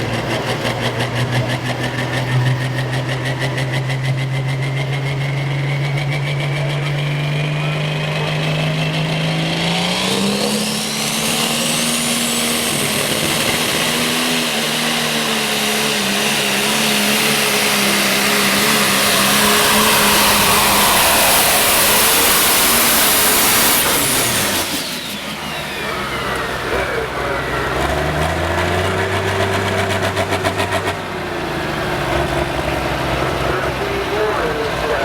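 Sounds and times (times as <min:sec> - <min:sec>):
turbocharger whistle: 0:00.0 - 0:31.2
tractor engine at full power: 0:00.0 - 0:35.0.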